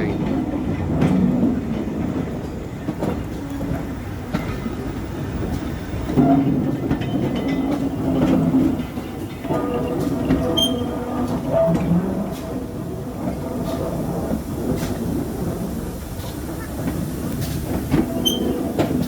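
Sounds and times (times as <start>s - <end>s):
train rumbling on rails: 0.0s - 19.0s
wheels clicking over rail joints: 0.0s - 19.0s.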